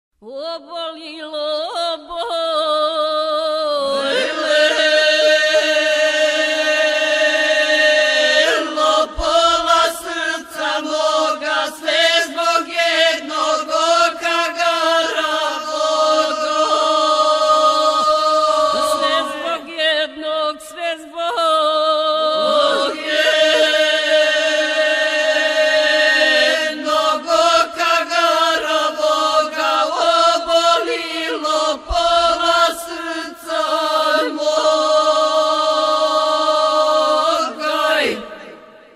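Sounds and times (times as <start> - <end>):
women singing unaccompanied: 0.2 - 38.6.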